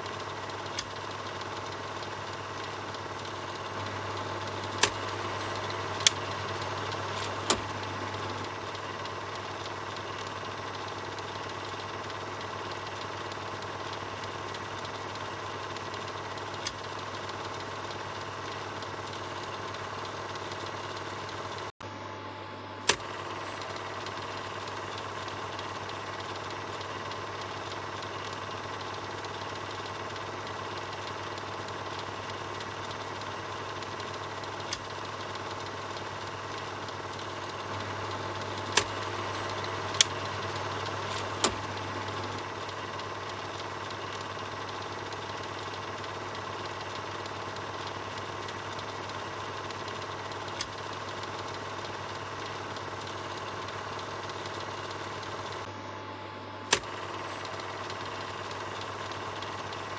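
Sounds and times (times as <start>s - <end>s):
film projector whirring: 0.0s - 59.9s
sharp clicks: 0.4s - 20.2s, 22.8s - 55.7s, 56.7s - 59.9s.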